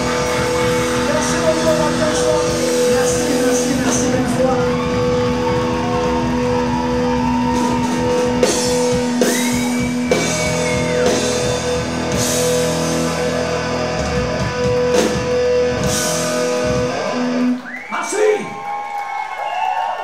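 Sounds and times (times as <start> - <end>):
live rock band playing: 0.0 - 17.6.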